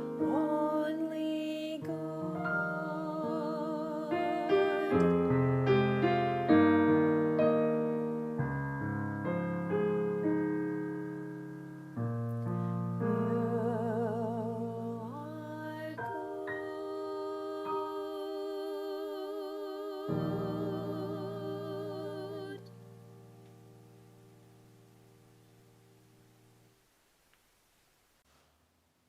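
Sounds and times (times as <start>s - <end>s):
slow piano chords: 0.0s - 26.8s.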